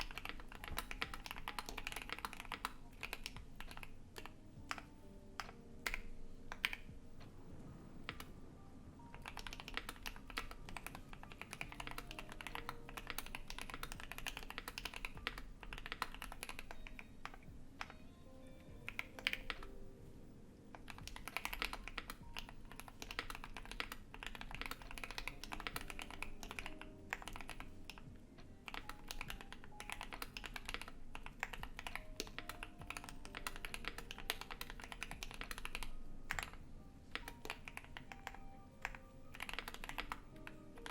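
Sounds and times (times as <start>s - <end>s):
mechanical keyboard typing: 0.0s - 7.0s, 8.0s - 8.3s, 9.0s - 18.1s, 18.7s - 19.8s, 20.7s - 40.9s
computer fan hum: 0.0s - 40.9s.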